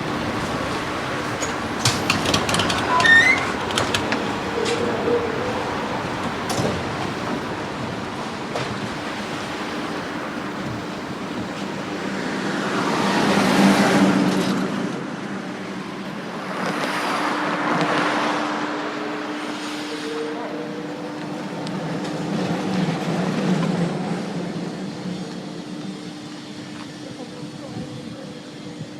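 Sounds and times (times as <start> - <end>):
street traffic hum: 0.0 - 27.8.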